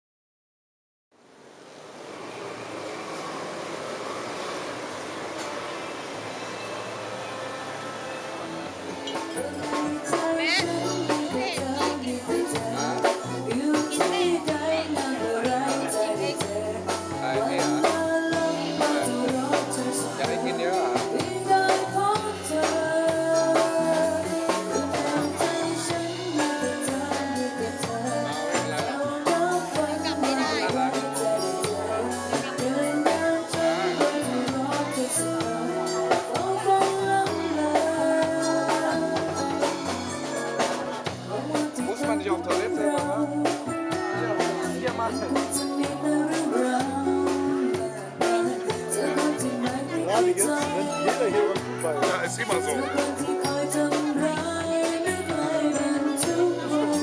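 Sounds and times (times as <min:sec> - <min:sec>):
keyboard: 0:02.2 - 0:57.0
acoustic guitar: 0:05.0 - 0:57.0
drum kit: 0:08.4 - 0:57.0
woman singing: 0:09.2 - 0:40.4, 0:41.0 - 0:57.0.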